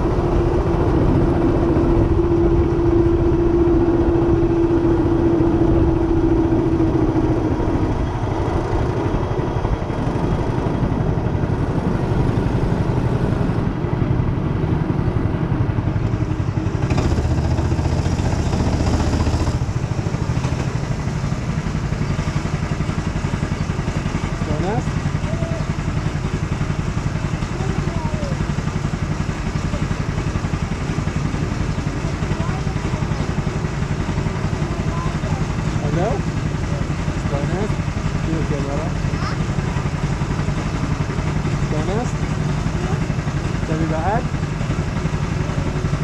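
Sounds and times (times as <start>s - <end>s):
go-kart engine running: 0.0s - 46.0s.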